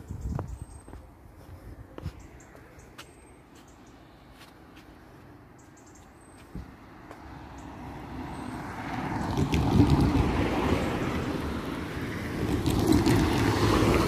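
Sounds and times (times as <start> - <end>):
car approaching: 0.0 - 14.0.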